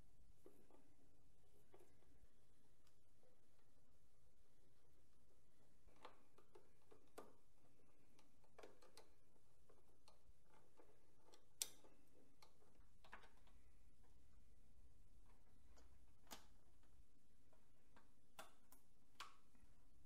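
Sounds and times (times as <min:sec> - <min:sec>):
faint clicks and light taps: 0:00.3 - 0:03.9, 0:05.1 - 0:14.5, 0:15.1 - 0:20.0.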